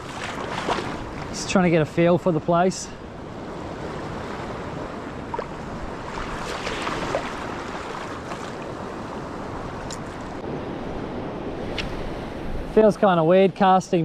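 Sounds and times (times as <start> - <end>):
surf washing on beach: 0.0 - 14.0.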